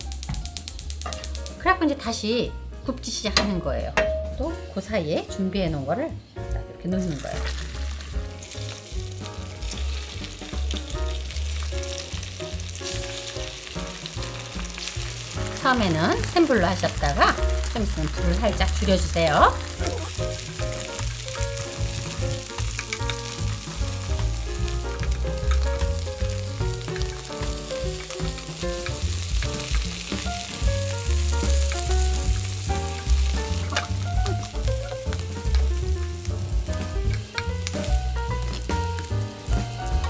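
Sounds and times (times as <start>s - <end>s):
pancakes sizzling in a frying pan: 0.0s - 1.6s, 7.4s - 40.0s.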